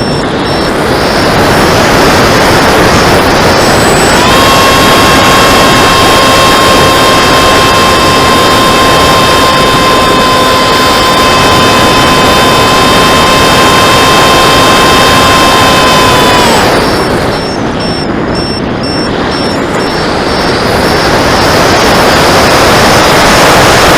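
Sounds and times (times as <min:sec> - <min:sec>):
electric motor propeller whine: 0:00.0 - 0:23.9
wind rush on microphone: 0:00.0 - 0:23.9.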